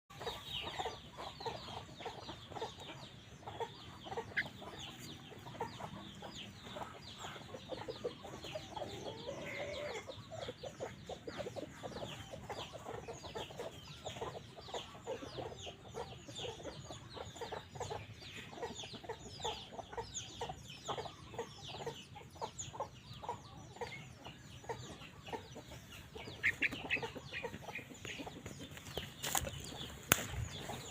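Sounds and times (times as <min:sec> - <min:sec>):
chicks peeping: 0:00.1 - 0:30.9
low clucking calls: 0:00.1 - 0:30.9.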